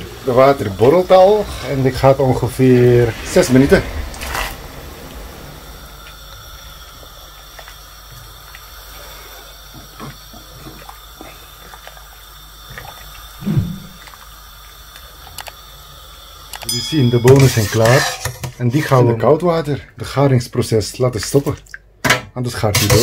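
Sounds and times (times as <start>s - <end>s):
water boiling: 0.0s - 21.9s.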